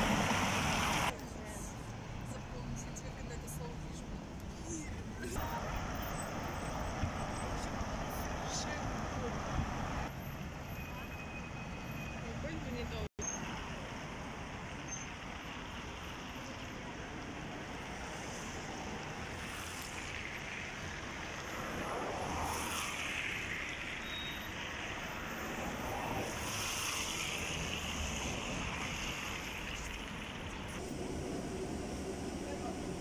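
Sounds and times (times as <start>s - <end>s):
distant road traffic: 0.0s - 33.0s.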